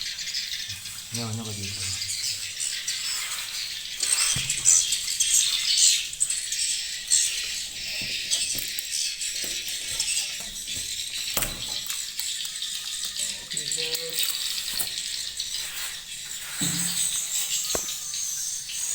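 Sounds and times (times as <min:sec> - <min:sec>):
swiftlets chittering: 0:00.0 - 0:18.9.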